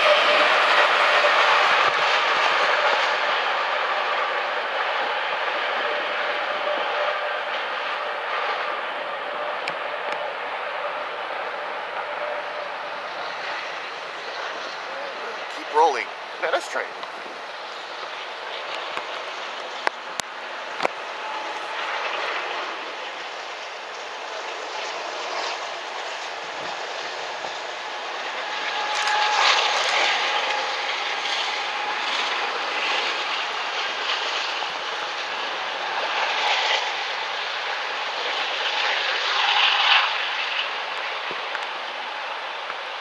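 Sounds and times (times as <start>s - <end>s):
train wheels on rail: 0.0s - 43.0s.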